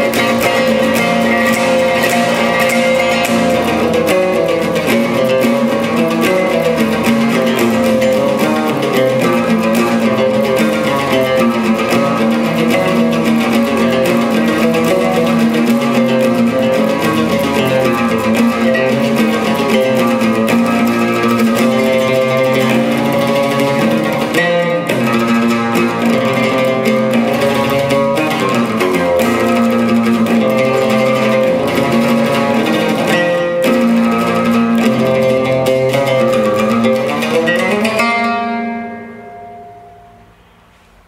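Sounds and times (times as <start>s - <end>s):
solo oud plucked notes: 0.0s - 41.0s.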